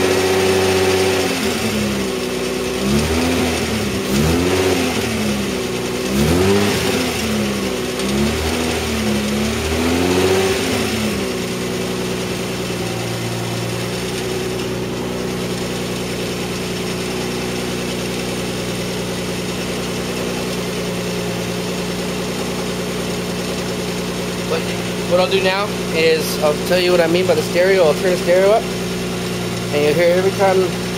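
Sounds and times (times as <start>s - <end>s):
car engine revving and idling: 0.0s - 30.9s.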